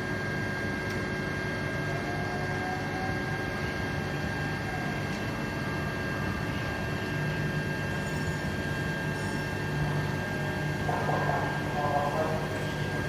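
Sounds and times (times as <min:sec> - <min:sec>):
engine drone with high whine: 0:00.0 - 0:13.0.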